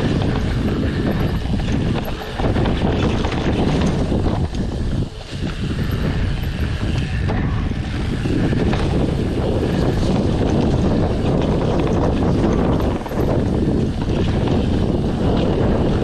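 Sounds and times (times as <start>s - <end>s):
rattly noise: 0.0s - 16.0s
wind rumbling on microphone: 0.0s - 16.0s.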